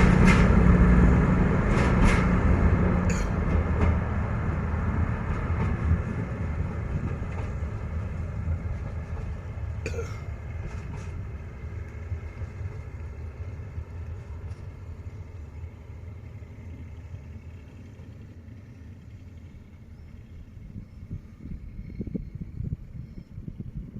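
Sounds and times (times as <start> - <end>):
passenger train rumbling: 0.0 - 23.9.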